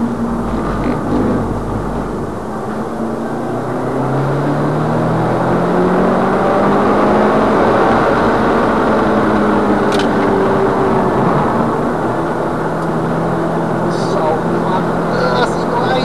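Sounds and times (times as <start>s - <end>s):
car engine pulling under throttle: 0.0s - 16.0s
road and wind noise: 0.0s - 16.0s.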